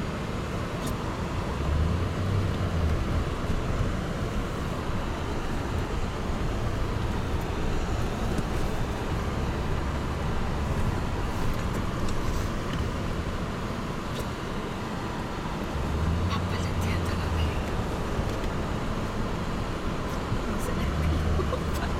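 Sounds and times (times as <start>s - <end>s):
engine and tyres on packed snow: 0.0s - 21.9s.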